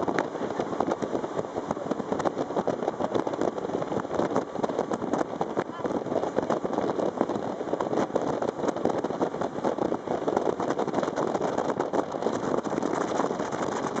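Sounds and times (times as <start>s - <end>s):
rushing noise of a boat: 0.0s - 14.0s.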